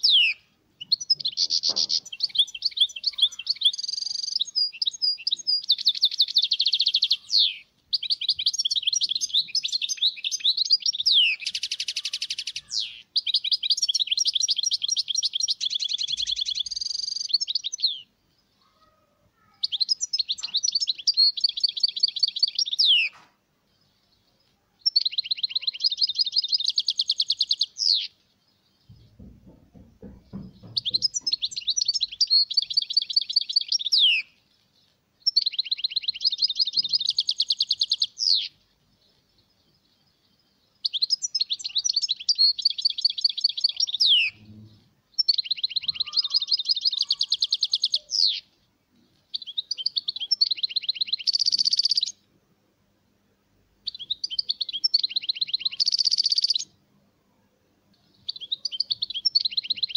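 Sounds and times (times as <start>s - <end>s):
goldfinch twittering song: 0.0s - 18.1s, 19.6s - 23.2s, 24.8s - 34.4s, 35.2s - 38.6s, 39.3s - 44.6s, 45.2s - 48.5s, 49.3s - 52.2s, 53.8s - 56.7s, 58.2s - 59.9s.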